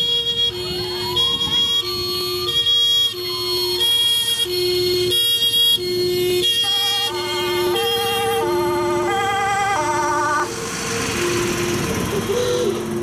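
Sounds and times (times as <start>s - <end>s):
fire engine two-tone siren: 0.0s - 13.0s.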